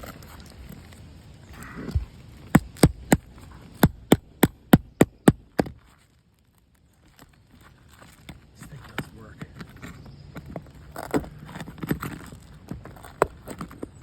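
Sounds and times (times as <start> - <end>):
pry bar scraping shingle: 0.0 - 14.0.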